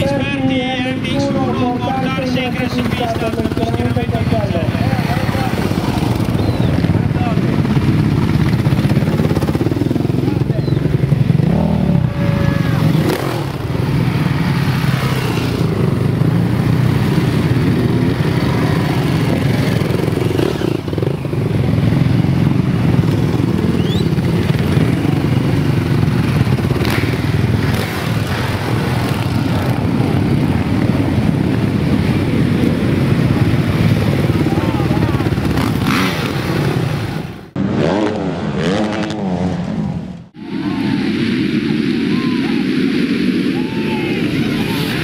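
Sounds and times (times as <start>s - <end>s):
dirt bike engines running: 0.0s - 45.0s.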